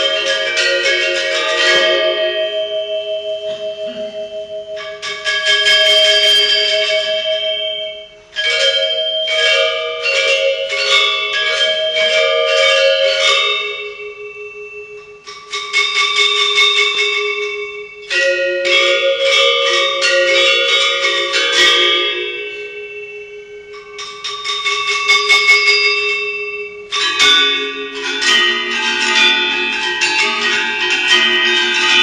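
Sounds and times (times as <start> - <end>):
bronze metallophones playing: 0.0 - 32.0.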